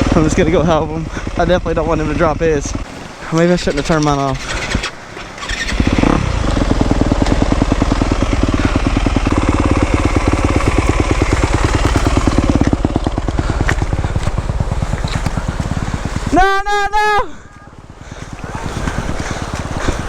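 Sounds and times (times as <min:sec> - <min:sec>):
dirt bike engine idling: 0:00.0 - 0:03.1, 0:03.8 - 0:20.0.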